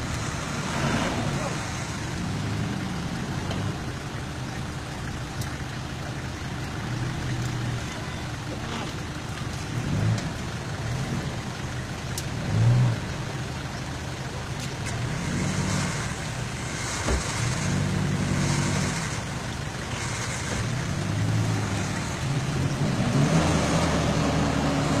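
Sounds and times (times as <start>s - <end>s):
off-road engine revving: 0.0s - 25.0s.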